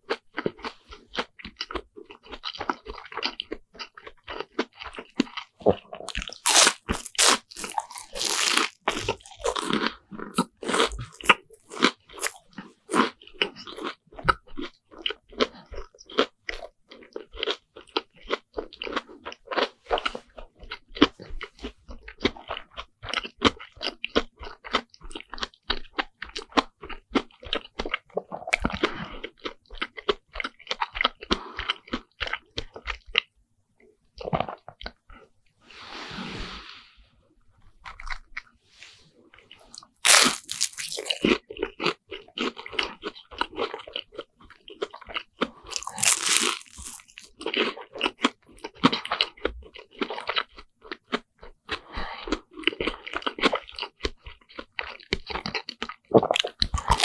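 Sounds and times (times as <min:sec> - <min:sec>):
crunching and chewing: 0:00.0 - 0:33.4, 0:34.1 - 0:35.4, 0:37.6 - 0:57.0.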